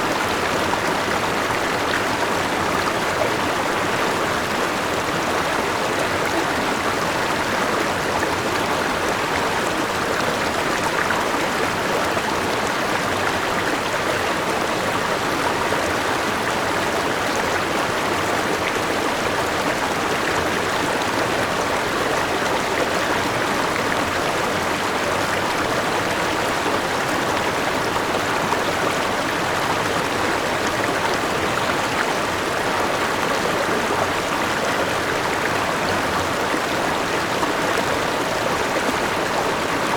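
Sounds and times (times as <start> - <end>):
small waterfall: 0.0 - 39.9.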